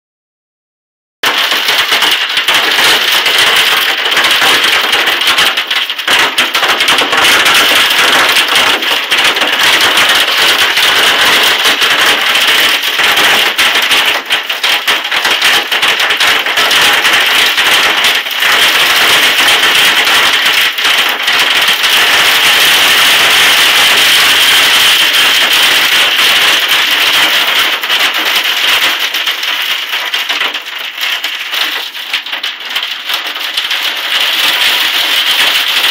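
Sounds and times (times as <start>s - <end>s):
hail pelting down: 1.2s - 35.9s.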